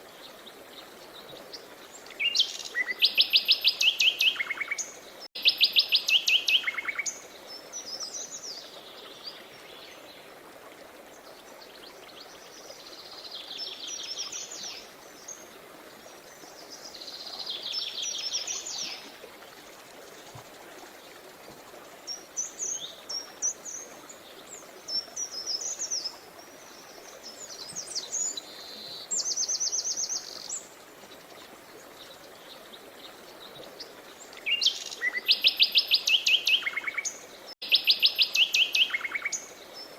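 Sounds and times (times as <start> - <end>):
songbirds singing: 0.0 - 10.3, 11.1 - 19.2, 22.0 - 39.9.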